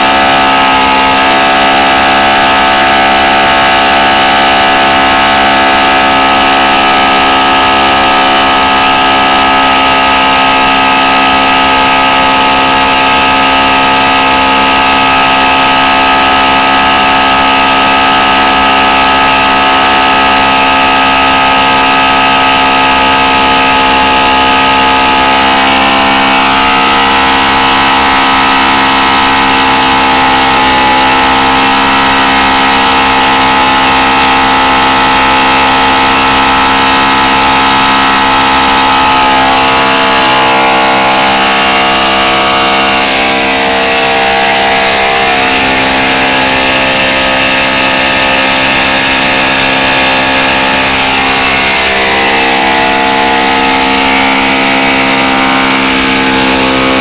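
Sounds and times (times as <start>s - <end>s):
model engine running loudly: 0.0s - 57.0s.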